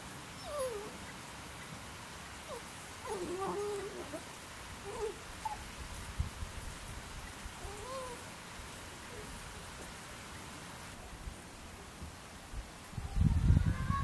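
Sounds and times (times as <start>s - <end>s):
outdoor ambience hiss: 0.0s - 14.0s.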